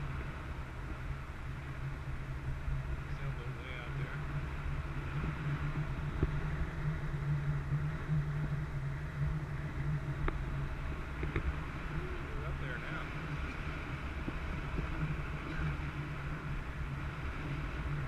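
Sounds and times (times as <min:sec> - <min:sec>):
motorboat engine humming: 0:00.0 - 0:18.0.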